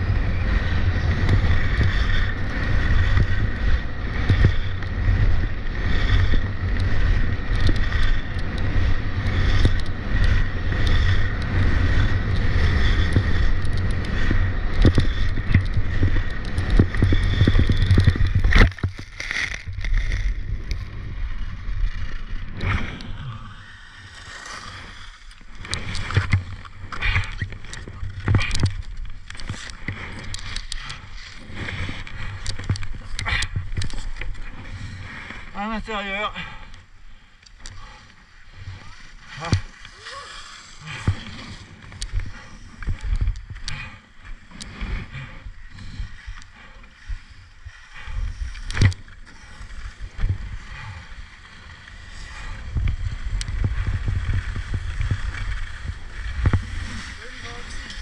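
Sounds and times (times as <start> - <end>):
skis scraping on icy snow: 0.0 - 36.3, 36.9 - 58.0
wind rumble: 0.0 - 58.0
skis and poles knocking: 1.0 - 23.3, 24.2 - 35.5, 37.4 - 58.0.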